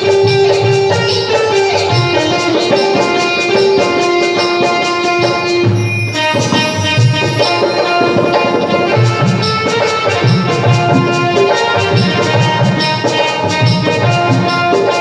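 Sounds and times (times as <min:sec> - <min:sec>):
hand percussion beat: 0:00.0 - 0:15.0
sustained instrumental melody: 0:00.0 - 0:15.0.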